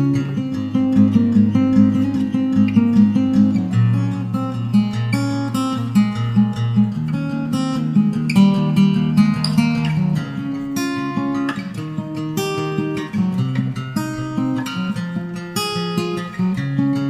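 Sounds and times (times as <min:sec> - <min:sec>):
acoustic guitar music with beat: 0:00.0 - 0:17.0.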